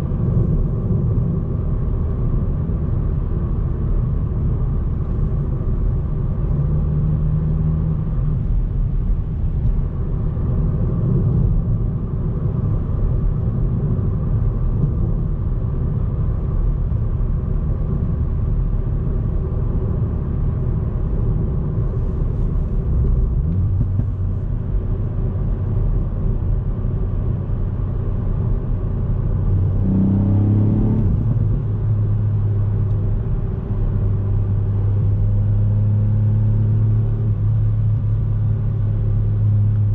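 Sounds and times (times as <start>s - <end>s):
car engine running: 0.0s - 39.9s
road rumble: 0.0s - 39.9s.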